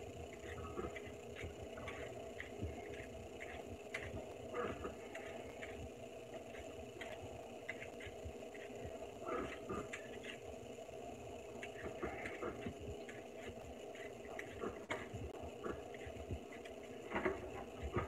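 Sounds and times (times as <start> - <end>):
peeler scraping potato: 0.0 - 10.6, 11.4 - 18.0
steady low hum: 0.0 - 18.0.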